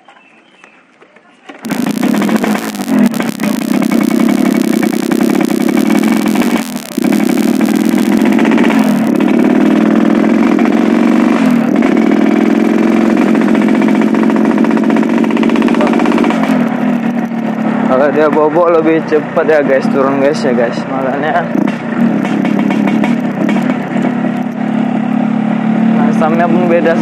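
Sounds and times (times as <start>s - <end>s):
motorcycle engine running hard: 1.6s - 27.0s.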